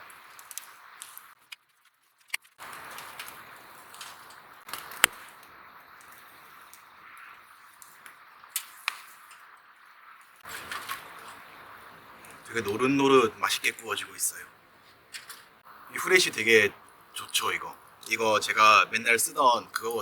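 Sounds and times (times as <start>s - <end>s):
campfire popping: 0.0s - 20.0s
skewers sizzling: 0.0s - 20.0s.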